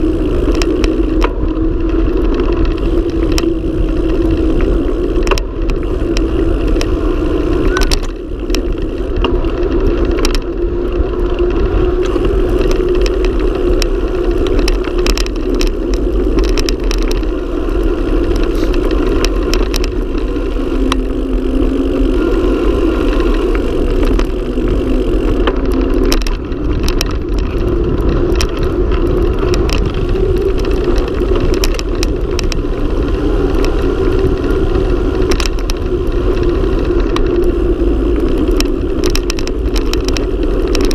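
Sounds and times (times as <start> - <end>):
bike clicks and rattles: 0.0 - 40.9
tyres rumbling on asphalt: 0.0 - 40.9
wind on microphone: 0.0 - 40.9.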